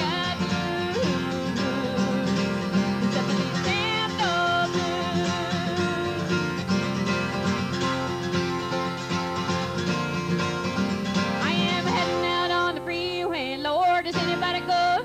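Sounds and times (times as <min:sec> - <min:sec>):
acoustic guitar country music: 0:00.0 - 0:15.0.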